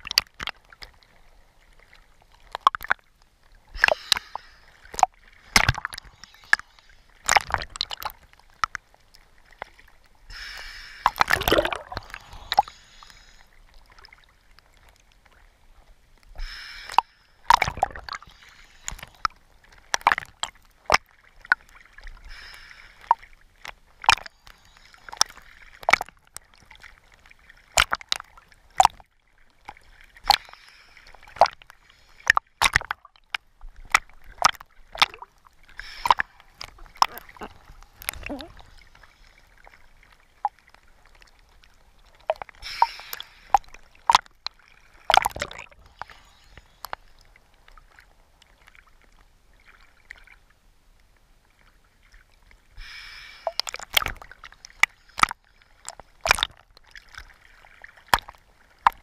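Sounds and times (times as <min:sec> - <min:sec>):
small waves splashing and slapping: 0:00.0 - 0:59.0.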